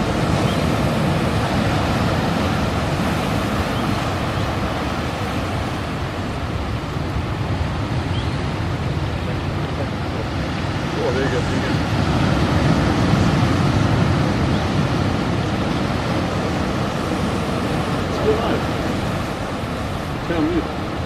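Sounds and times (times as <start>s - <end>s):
surf washing among boulders: 0.0s - 21.0s.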